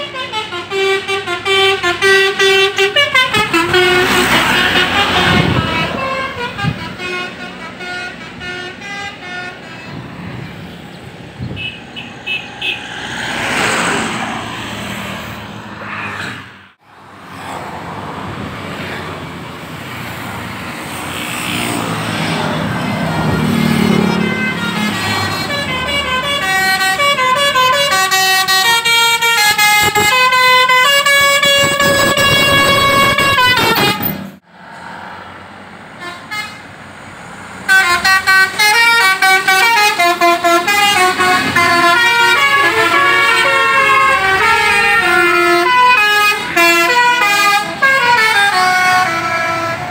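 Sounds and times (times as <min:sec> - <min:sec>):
bus horns playing tunes: 0:00.0 - 0:14.2, 0:21.1 - 0:34.4, 0:35.9 - 0:36.8, 0:37.6 - 0:49.9
vehicle and street noise: 0:00.0 - 0:49.9.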